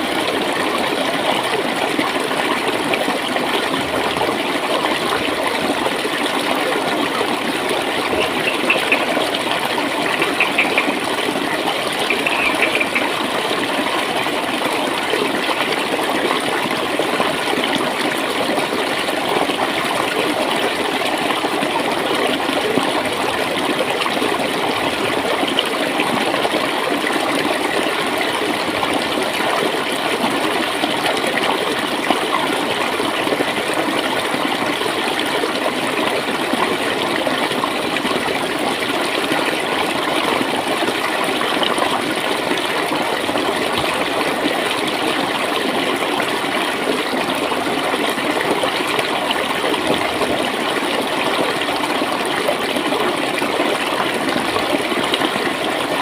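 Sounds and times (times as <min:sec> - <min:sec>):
stream flowing and gurgling: 0:00.0 - 0:56.0
water splashes: 0:00.0 - 0:56.0.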